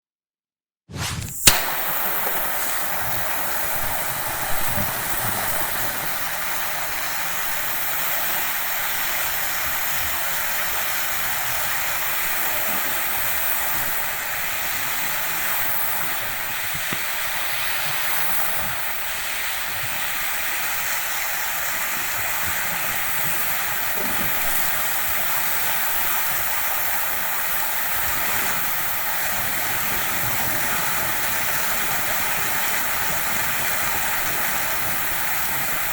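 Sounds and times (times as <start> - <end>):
gas flame hissing: 0.9 - 35.9.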